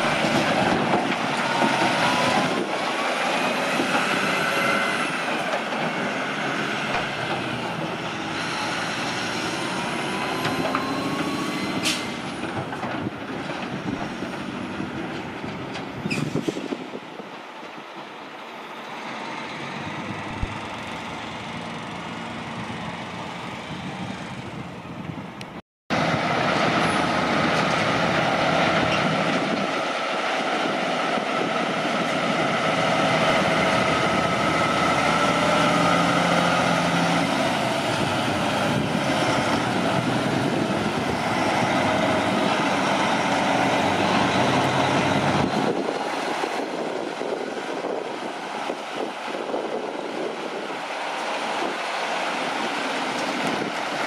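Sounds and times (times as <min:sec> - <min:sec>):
diesel truck engine under load: 0:00.0 - 0:54.0.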